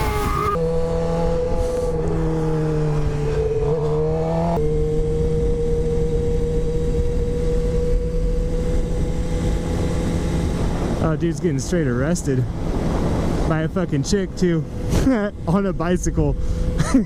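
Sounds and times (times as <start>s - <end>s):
road rumble: 0.0s - 17.0s
wind: 0.0s - 17.0s.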